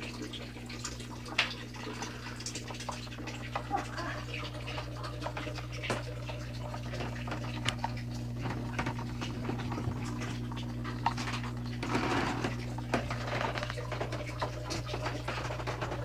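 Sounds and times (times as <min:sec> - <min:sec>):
aquarium filter humming: 0:00.0 - 0:16.0
trickling water drips: 0:00.0 - 0:16.0.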